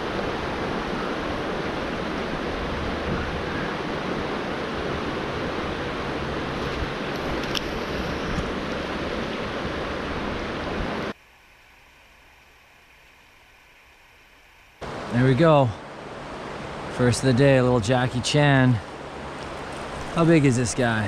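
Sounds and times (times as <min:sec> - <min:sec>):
river water rushing: 0:00.0 - 0:12.1, 0:14.8 - 0:21.0.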